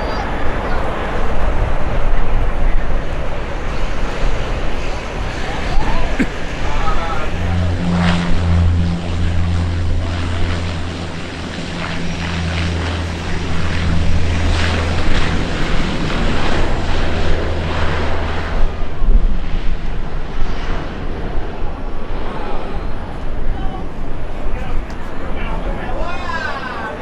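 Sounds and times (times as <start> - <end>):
propeller aircraft engines droning: 0.0 - 27.0.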